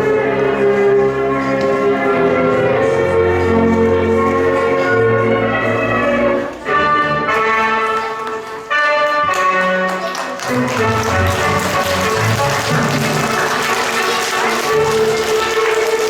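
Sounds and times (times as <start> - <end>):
orchestral music over sound system: 0.0 - 16.0.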